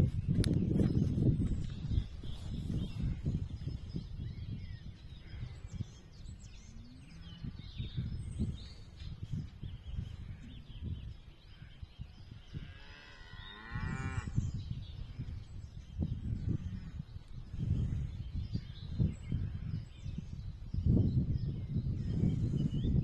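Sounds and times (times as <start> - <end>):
low rumble on microphone: 0.0 - 23.0
small birds chirping faintly: 0.0 - 23.0.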